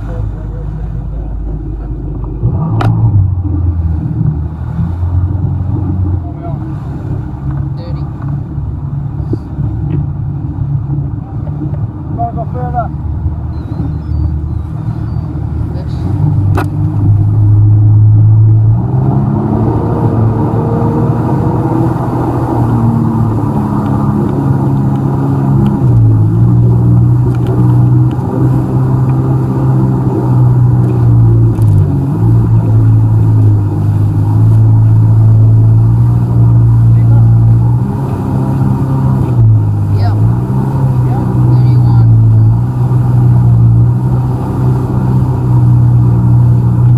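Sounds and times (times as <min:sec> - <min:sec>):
jet ski engine running: 0:00.0 - 0:46.9.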